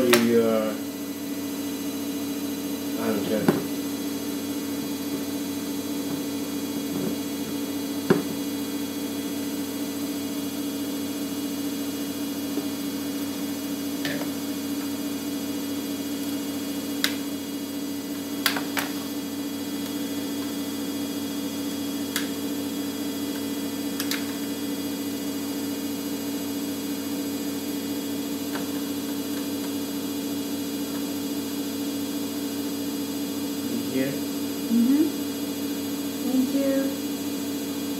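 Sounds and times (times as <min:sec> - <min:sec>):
electrical hum: 0:00.0 - 0:37.9.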